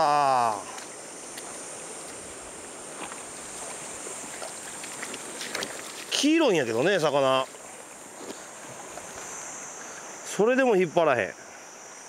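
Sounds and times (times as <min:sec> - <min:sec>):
rushing river current: 0:00.0 - 0:12.0.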